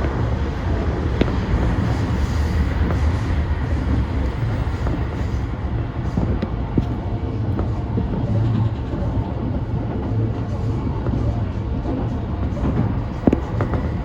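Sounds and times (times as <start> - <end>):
electric train rumbling: 0.0 - 14.0
wheels clicking on track: 0.0 - 14.0.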